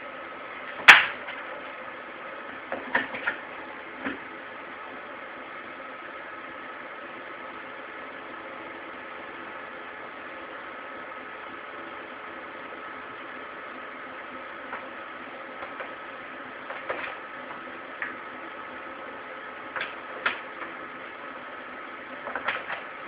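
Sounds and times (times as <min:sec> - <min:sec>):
steady hum with thin tone: 0:00.0 - 0:23.0.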